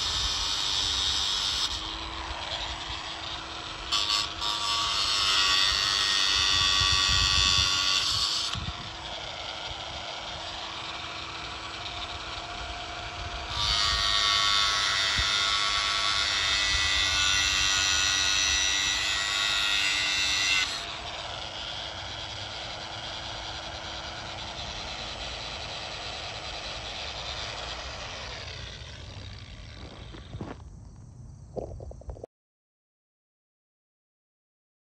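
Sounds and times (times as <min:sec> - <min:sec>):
angle grinder grinding metal: 0:00.0 - 0:30.6.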